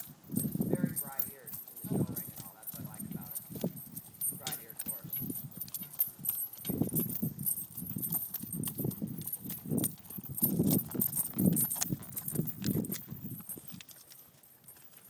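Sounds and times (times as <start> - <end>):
horse hoofbeats on soft dirt: 0.0 - 15.0.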